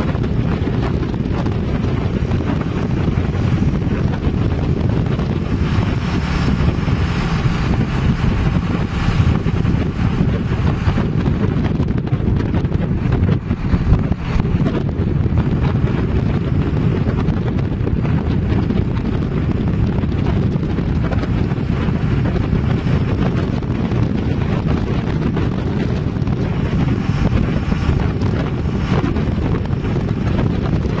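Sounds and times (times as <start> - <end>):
car driving along a road: 0.0 - 31.0
wind rumbling on microphone: 0.0 - 31.0.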